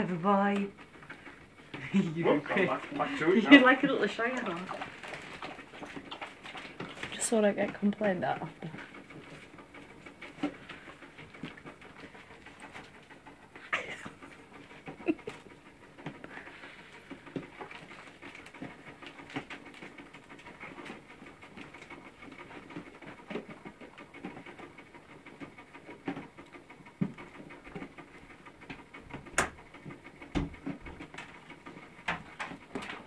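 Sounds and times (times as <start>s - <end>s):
puppies chewing and lapping: 0.5s - 33.0s.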